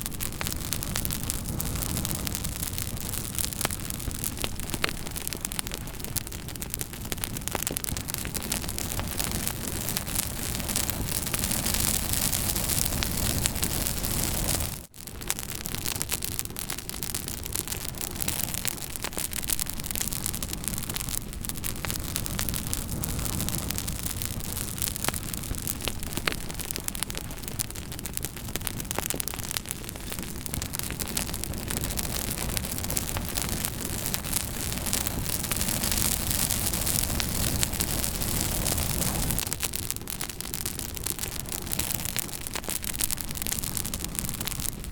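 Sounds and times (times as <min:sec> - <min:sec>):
campfire crackling and popping: 0:00.0 - 0:44.9
campfire hiss: 0:00.0 - 0:44.9.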